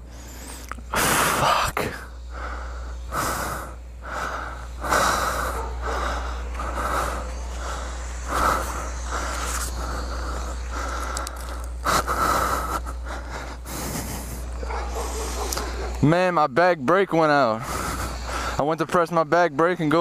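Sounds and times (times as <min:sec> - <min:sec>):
heavy ragged breathing and wheezing: 0:00.0 - 0:16.1, 0:17.3 - 0:18.8.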